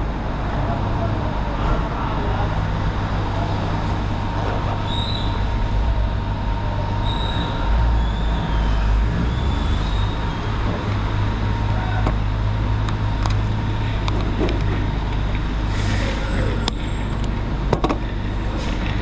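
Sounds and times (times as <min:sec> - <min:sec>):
motorcycle engine running: 0:00.1 - 0:15.6.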